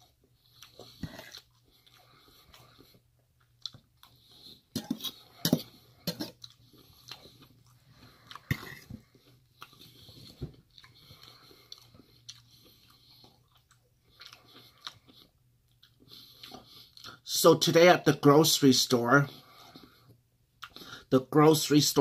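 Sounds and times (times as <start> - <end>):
chewing with wet clicks and crunches: 0.0 - 17.3, 19.4 - 21.1.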